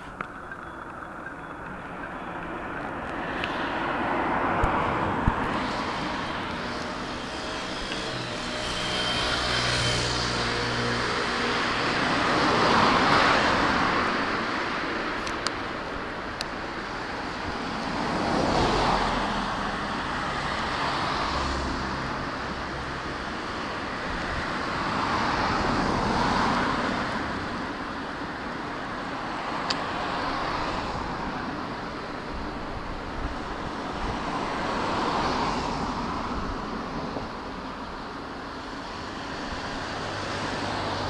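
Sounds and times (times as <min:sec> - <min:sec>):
passing traffic: 0:00.0 - 0:41.0.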